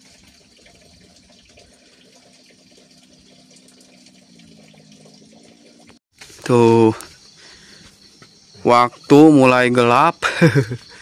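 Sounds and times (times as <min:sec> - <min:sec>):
faint running water: 0:00.0 - 0:11.0.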